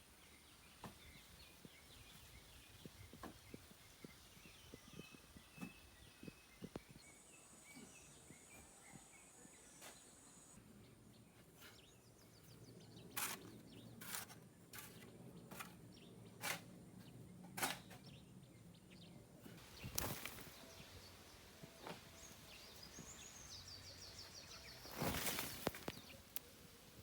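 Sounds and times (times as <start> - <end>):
birds chirping faintly: 0.0 - 27.0.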